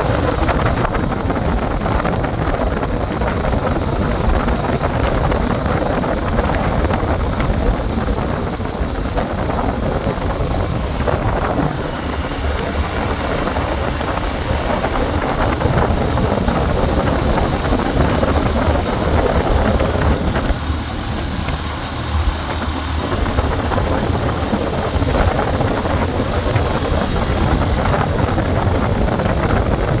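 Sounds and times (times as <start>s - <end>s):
motorbike engine running: 0.0s - 30.0s
wind rumbling on microphone: 0.0s - 30.0s.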